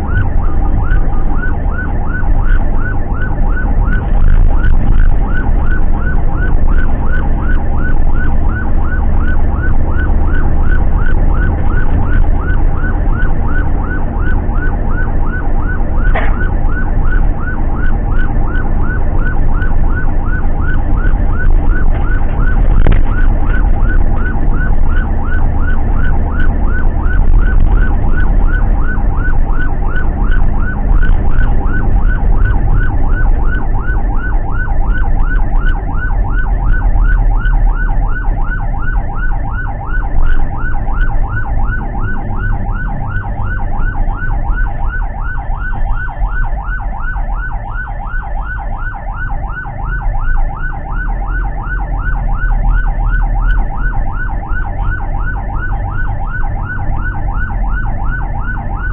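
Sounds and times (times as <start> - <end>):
engine and road rumble: 0.0 - 58.9
siren yelping: 0.0 - 58.9.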